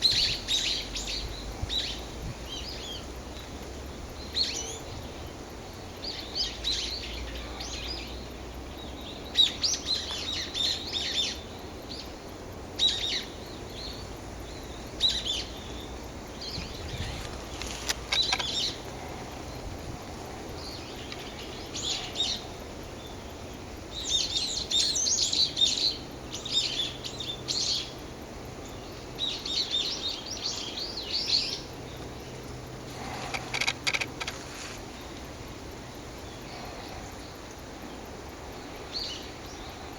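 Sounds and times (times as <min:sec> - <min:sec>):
small birds chirping: 0:00.0 - 0:12.2, 0:12.8 - 0:39.9.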